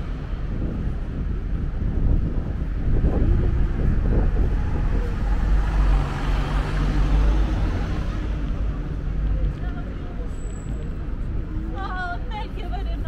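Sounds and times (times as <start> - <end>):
car engine hum and tyre noise: 0.0 - 13.0
low traffic rumble: 0.0 - 13.0.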